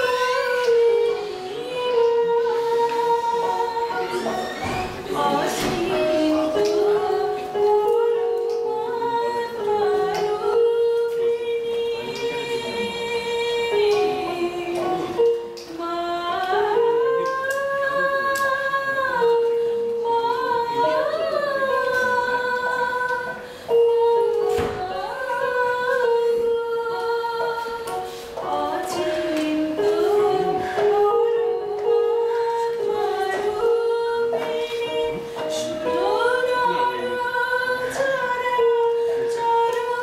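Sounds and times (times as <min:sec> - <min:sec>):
electronic keyboard: 0:00.0 - 0:40.0
woman singing slow song: 0:00.0 - 0:40.0.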